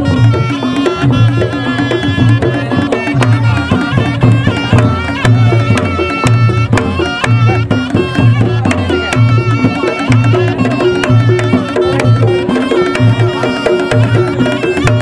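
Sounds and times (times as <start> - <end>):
deep bass drum beats: 0.0 - 15.0
reedy held melody: 0.0 - 15.0.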